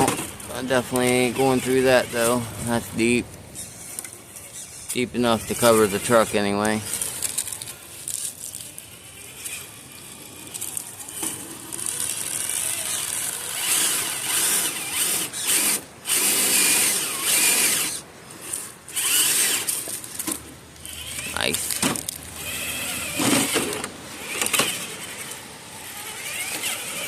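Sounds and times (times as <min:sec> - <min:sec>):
toy car electric motor whirring: 0:00.0 - 0:02.9, 0:03.5 - 0:27.0.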